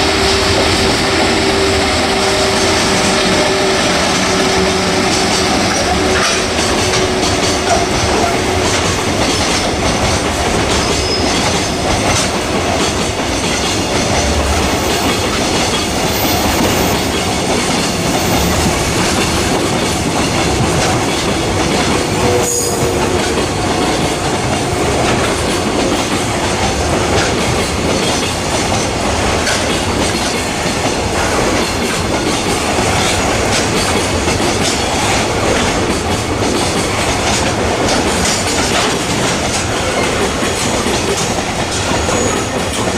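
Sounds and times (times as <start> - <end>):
clickety-clack over rail joints: 0.0 - 42.9
freight train wheels rumbling: 0.0 - 42.9.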